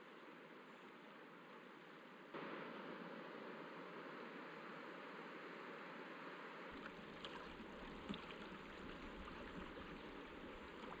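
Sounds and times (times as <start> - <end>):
river water over rocks: 0.0 - 11.0.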